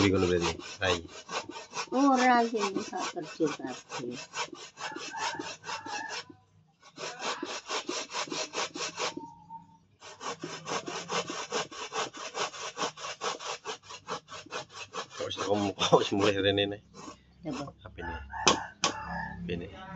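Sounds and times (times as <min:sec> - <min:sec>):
coconut scraping on grater: 0:00.0 - 0:06.3, 0:06.9 - 0:09.3, 0:10.0 - 0:17.8.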